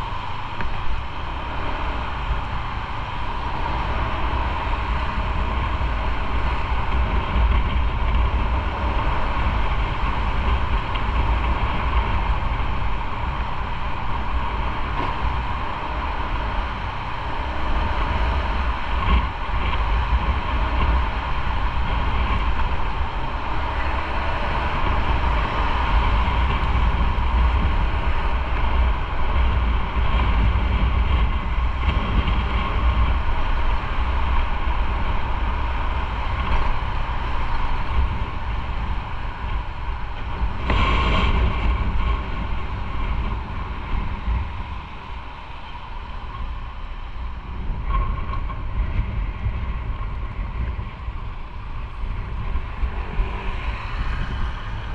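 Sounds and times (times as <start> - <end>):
motorcycle engine and road noise: 0.0 - 54.9
wind rush on microphone: 0.0 - 54.9.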